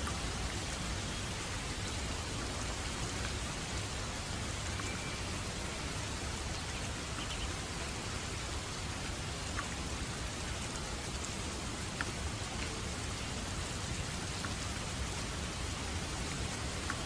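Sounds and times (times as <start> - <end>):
raindrops splatting: 0.0 - 17.0
steady rain hissing: 0.0 - 17.0.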